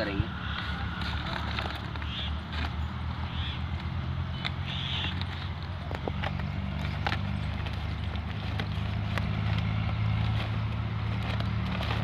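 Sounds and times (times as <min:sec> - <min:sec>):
low engine hum: 0:00.0 - 0:12.0
plastic sack crinkling: 0:00.0 - 0:12.0.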